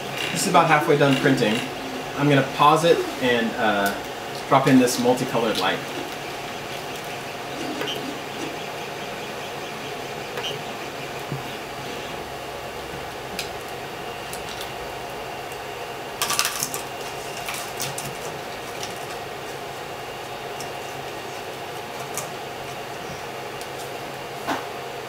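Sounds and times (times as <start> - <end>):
printer fan hum: 0.0 - 25.0.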